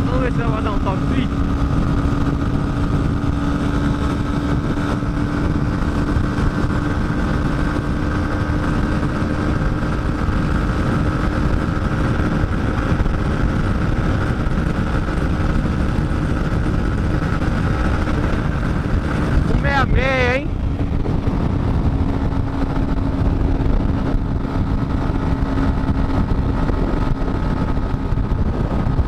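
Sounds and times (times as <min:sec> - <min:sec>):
motorcycle engine at high revs: 0:00.0 - 0:29.0
wind rush on microphone: 0:00.0 - 0:29.0.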